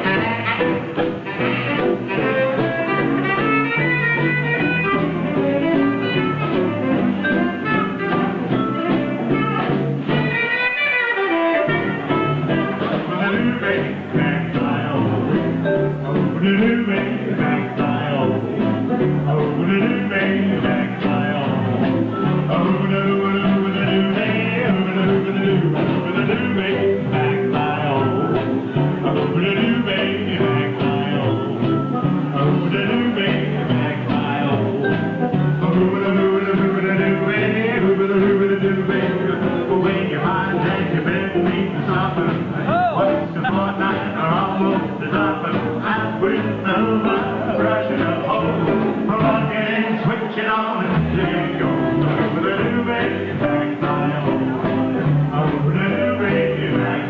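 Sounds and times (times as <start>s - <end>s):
live rock and roll band: 0.0s - 57.0s.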